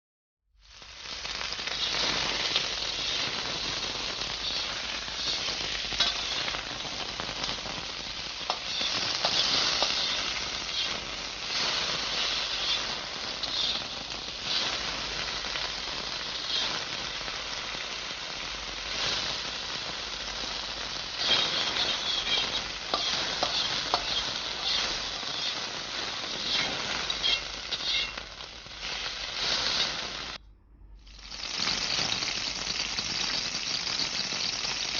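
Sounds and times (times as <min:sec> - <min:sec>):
food sizzling in a hot pan: 0:00.6 - 0:30.4, 0:31.1 - 0:34.9.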